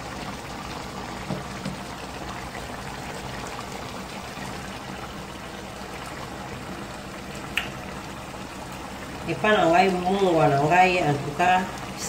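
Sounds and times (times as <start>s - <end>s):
stew bubbling and popping: 0.0s - 12.0s.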